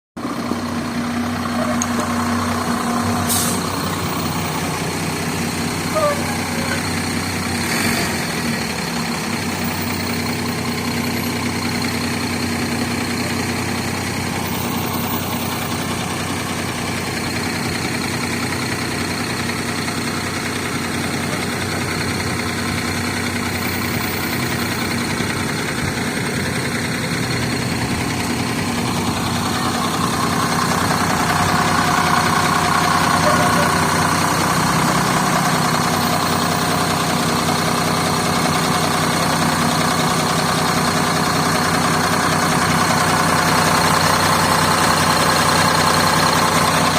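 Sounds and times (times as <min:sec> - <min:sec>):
diesel bus engine idling: 0:00.2 - 0:46.9.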